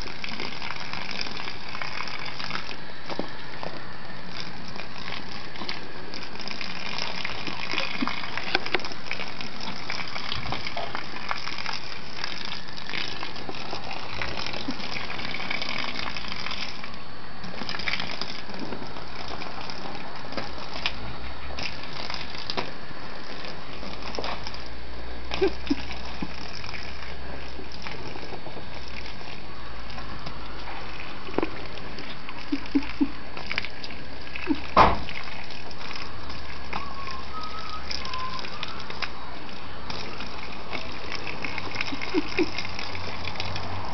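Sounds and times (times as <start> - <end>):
hose spraying water onto grass: 0.0 - 43.9.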